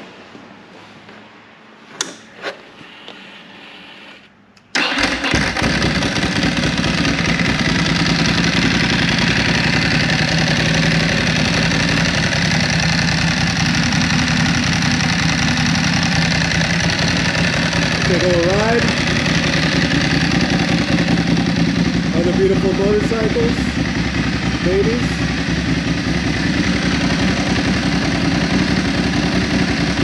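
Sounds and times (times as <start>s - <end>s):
motorcycle engine starting and idling: 4.6s - 30.0s.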